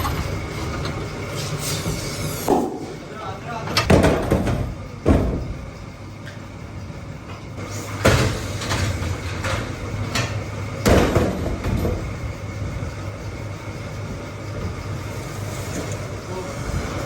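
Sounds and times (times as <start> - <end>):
factory machinery humming: 0.0 - 17.0
machinery clanks and knocks: 0.0 - 17.0.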